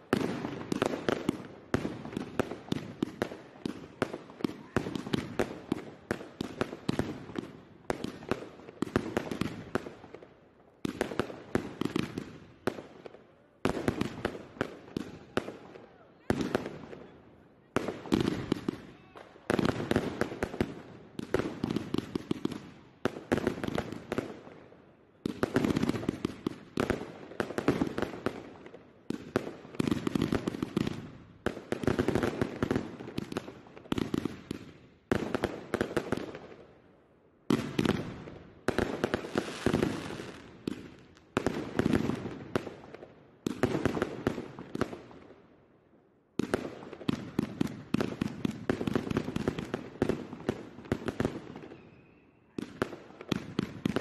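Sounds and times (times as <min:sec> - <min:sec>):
fireworks bangs and crackle: 0:00.0 - 0:36.8, 0:37.4 - 0:45.5, 0:46.3 - 0:54.0.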